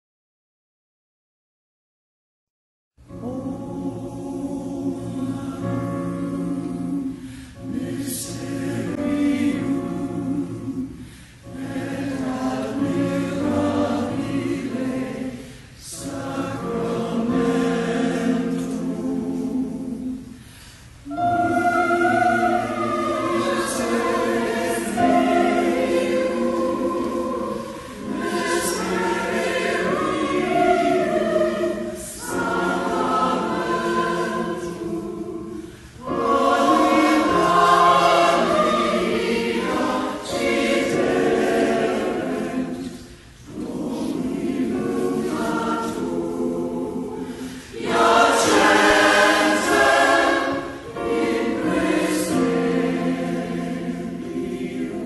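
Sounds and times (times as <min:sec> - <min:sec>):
choir singing: 0:03.1 - 0:55.0.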